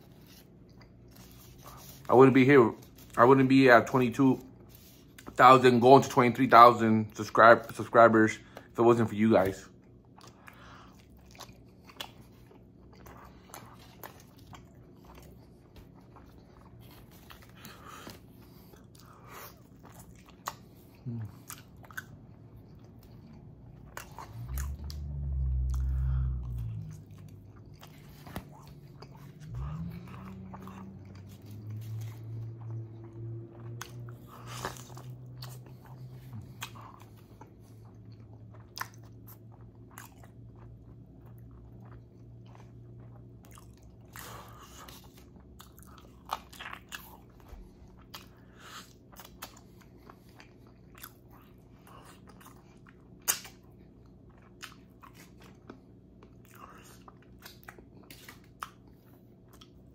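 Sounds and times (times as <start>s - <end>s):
chewing and biting food: 0.0s - 59.9s.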